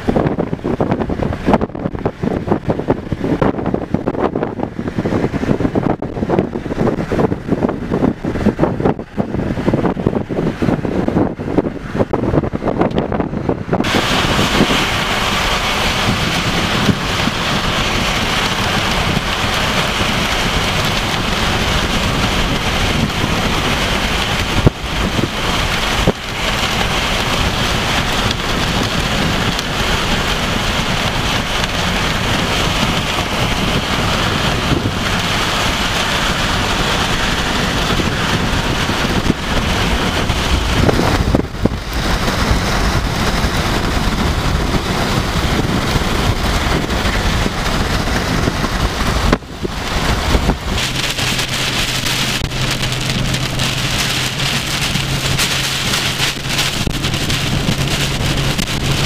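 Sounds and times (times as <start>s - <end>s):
heavy rain: 0.0s - 59.0s
wind: 0.0s - 59.0s.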